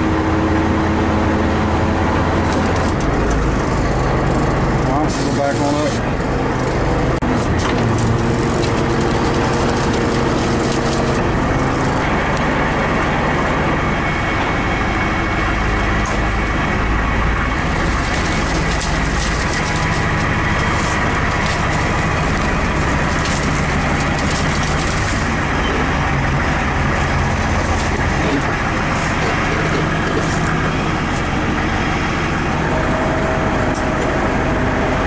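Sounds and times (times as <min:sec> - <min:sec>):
tow truck engine running: 0:00.0 - 0:35.0.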